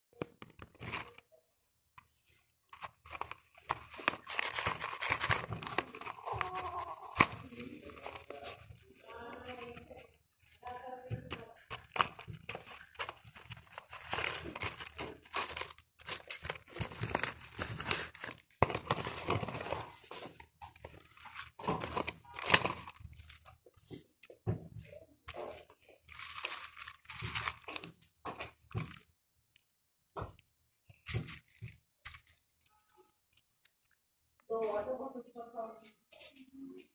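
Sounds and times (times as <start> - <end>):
paper bag crinkling and rustling: 0.3 - 1.2, 2.2 - 29.1, 30.9 - 34.0.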